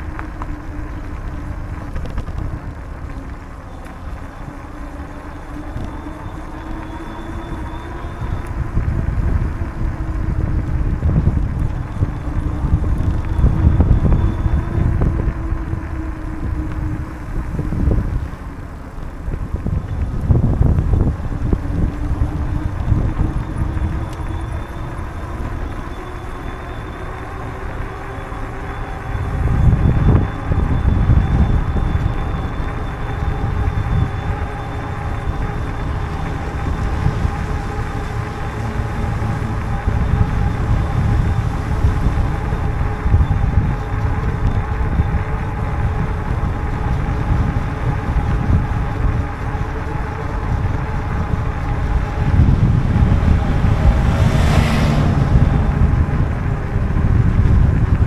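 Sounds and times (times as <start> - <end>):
faint steady hum: 0.0 - 58.0
wind buffeting microphone: 0.0 - 58.0.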